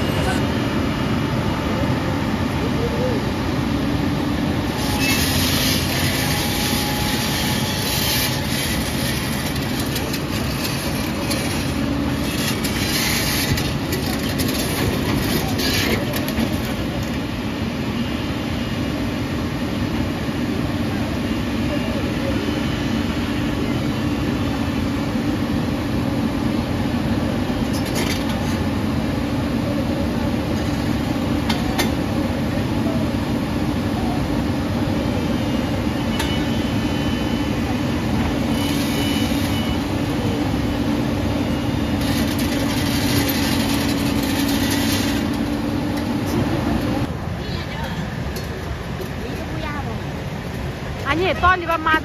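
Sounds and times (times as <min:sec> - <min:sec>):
excavator diesel engines running: 0:00.0 - 0:52.0.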